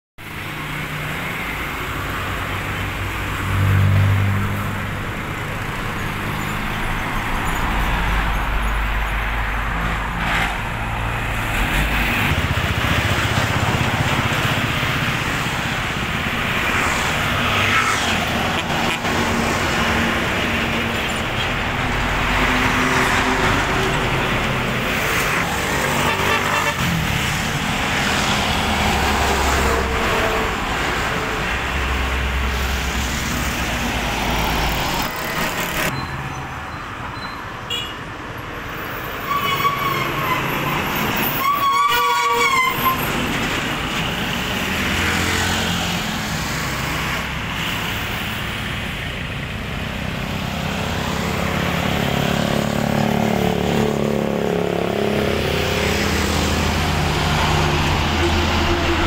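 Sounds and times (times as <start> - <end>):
highway traffic passing: 0.2 - 59.0.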